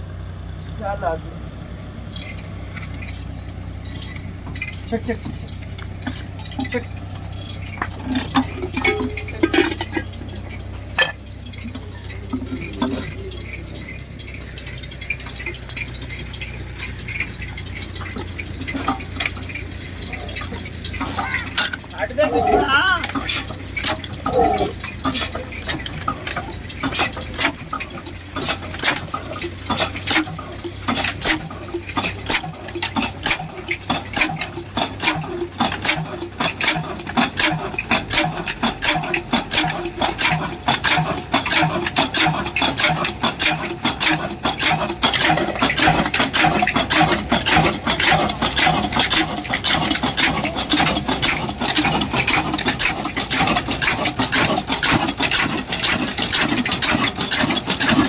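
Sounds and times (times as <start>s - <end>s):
stationary engine clatter: 0.0s - 58.0s.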